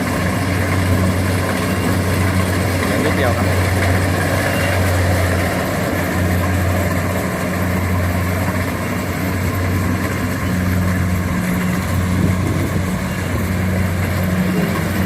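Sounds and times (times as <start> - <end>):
combine threshing noise: 0.0 - 15.0
diesel engine humming: 0.0 - 15.0.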